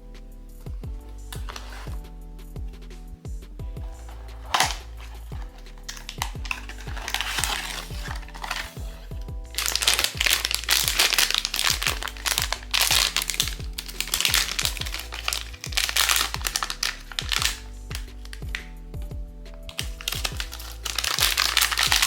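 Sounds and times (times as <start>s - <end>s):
background music: 0.0s - 22.0s
plastic wrapper crinkling: 1.3s - 2.0s, 3.8s - 18.6s, 19.7s - 22.0s.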